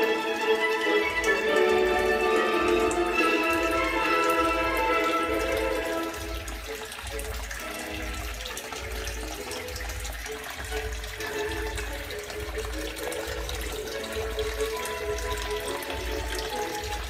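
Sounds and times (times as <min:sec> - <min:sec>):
water running down waterfall: 0:00.0 - 0:17.0.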